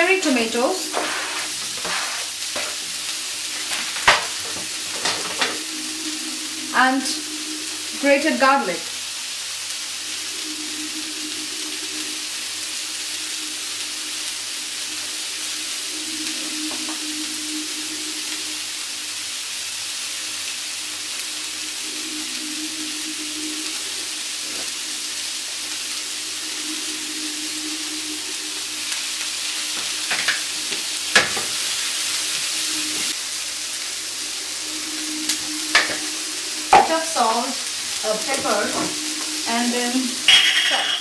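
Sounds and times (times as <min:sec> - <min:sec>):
vegetables sizzling in oil: 0:00.0 - 0:41.0
low hum: 0:03.2 - 0:09.2, 0:09.8 - 0:19.2, 0:20.6 - 0:31.0, 0:32.5 - 0:40.5.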